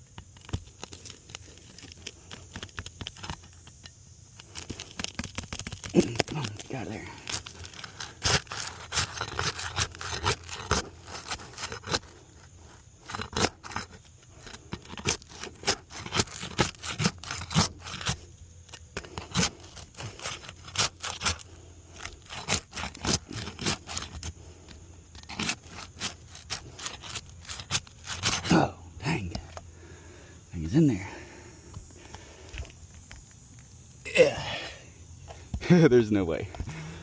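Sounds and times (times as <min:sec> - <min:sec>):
sharp scrapes clicks and crackles: 0:00.0 - 0:29.6
tool scraping under shingles: 0:00.0 - 0:33.8.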